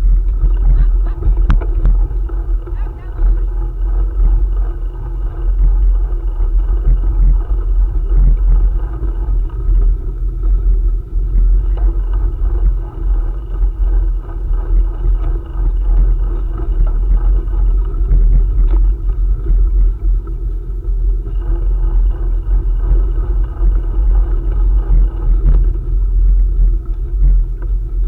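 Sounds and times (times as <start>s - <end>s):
bicycle rolling hum: 0.0s - 28.0s
wind buffeting microphone: 0.0s - 28.0s.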